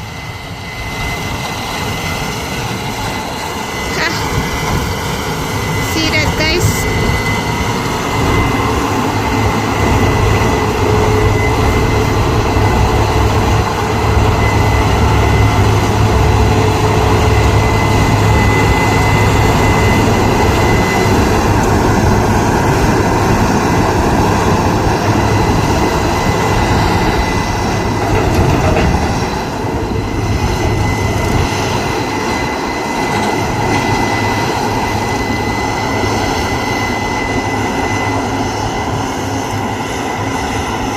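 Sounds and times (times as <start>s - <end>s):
combine harvester drone: 0.0s - 40.9s
high whine: 0.0s - 40.9s.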